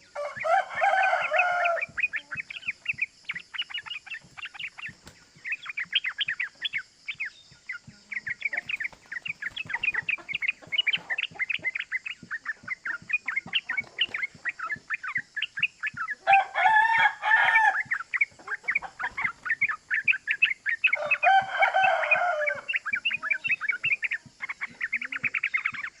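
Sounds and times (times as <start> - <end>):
bird singing rapid chattering notes: 0.0 - 26.0.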